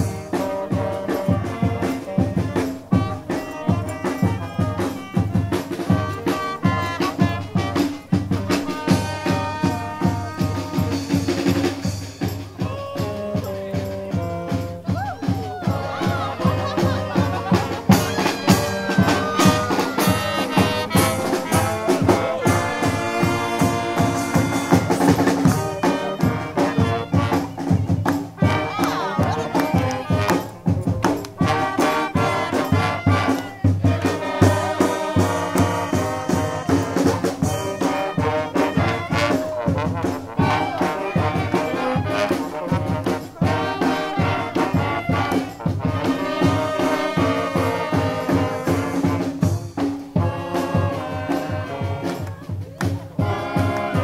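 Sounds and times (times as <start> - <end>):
low brass bass line: 0.0 - 11.8, 12.6 - 14.9, 15.7 - 54.0
steady drum beat: 0.0 - 54.0
trumpets and trombones: 0.0 - 54.0.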